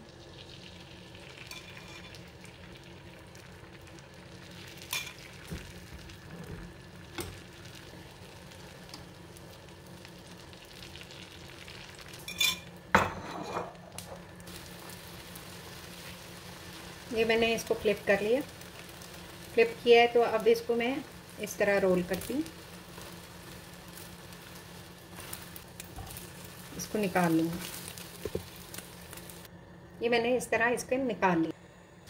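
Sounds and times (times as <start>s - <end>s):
eggs sizzling in a pan: 0.0s - 32.0s.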